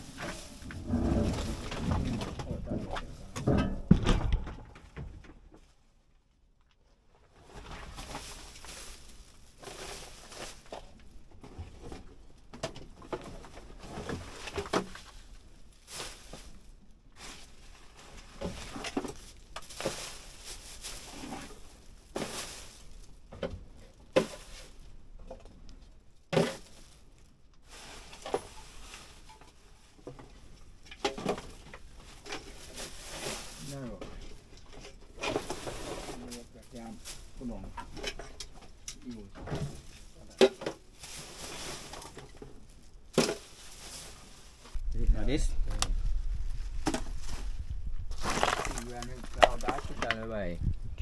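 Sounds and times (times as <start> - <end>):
household clutter being moved: 0.0 - 5.7, 7.2 - 25.6, 26.3 - 50.8.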